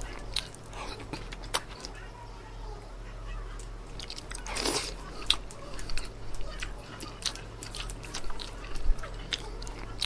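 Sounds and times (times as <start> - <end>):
chewing food: 0.0 - 2.4, 3.2 - 10.0
low steady hum: 0.0 - 10.0.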